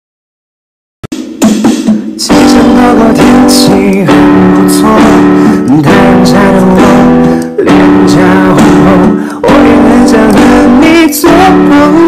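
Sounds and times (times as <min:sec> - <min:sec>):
pop song with acoustic guitar: 0:02.2 - 0:12.0.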